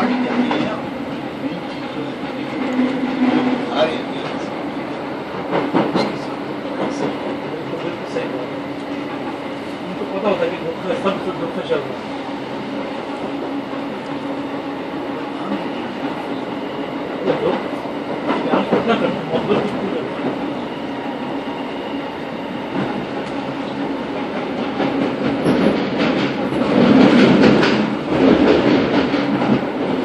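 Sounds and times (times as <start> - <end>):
train clattering over track: 0.0 - 30.0
train wheels rumbling on rail: 0.0 - 30.0.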